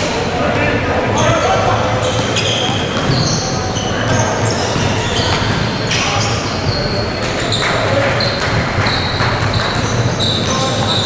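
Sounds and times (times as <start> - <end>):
sneakers squeaking on hardwood: 1.2 - 11.0
basketball bouncing: 2.0 - 11.0.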